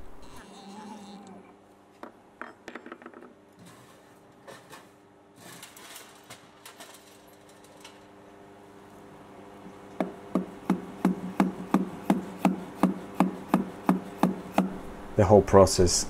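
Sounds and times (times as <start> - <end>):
faint machine hum: 0.0 - 16.0.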